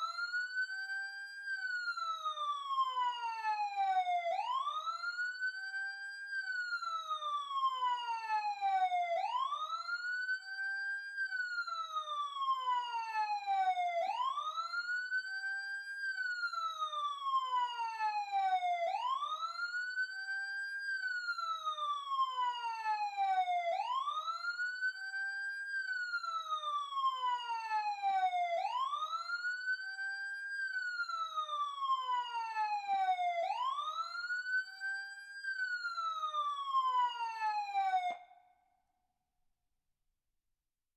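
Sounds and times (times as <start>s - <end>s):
emergency siren wailing: 1.6s - 38.4s.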